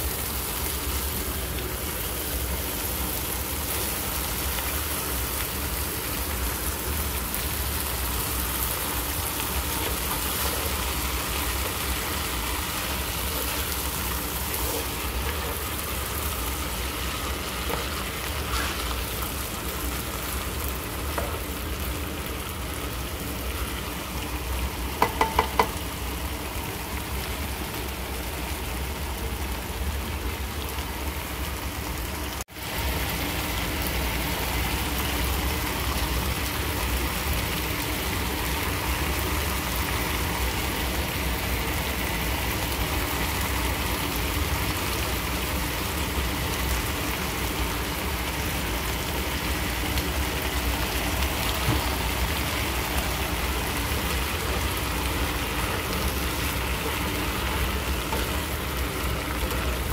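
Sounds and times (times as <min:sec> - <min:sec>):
vegetables sizzling in skillet: 0:00.0 - 0:59.9.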